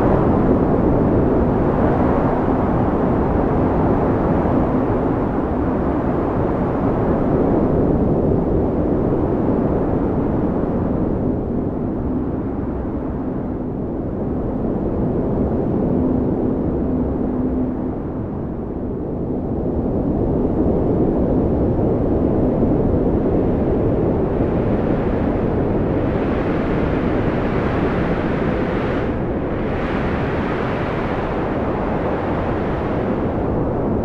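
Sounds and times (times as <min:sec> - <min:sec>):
strong wind rumbling: 0:00.0 - 0:34.0.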